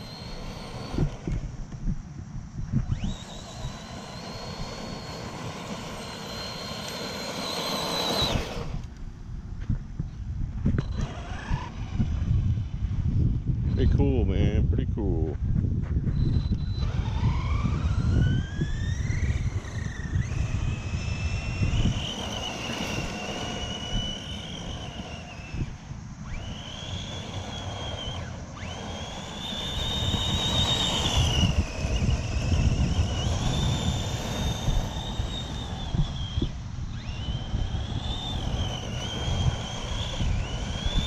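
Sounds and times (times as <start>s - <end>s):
electric motor whine: 0.0s - 41.0s.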